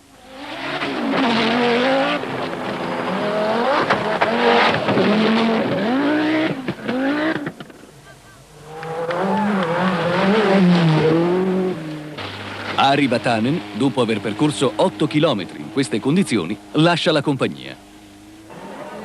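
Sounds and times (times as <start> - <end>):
another car engine: 0.0 - 19.0
rally car engine revving: 0.0 - 19.0.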